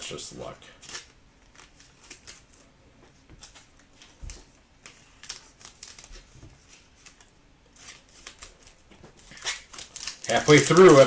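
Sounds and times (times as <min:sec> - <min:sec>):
cards flipping and rustling: 0:00.8 - 0:11.0.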